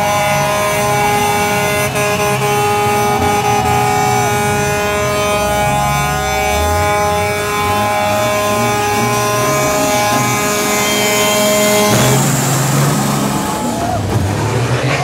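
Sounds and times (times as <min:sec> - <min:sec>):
truck horn sounding: 0:00.0 - 0:14.6
diesel truck engine revving: 0:00.0 - 0:15.0.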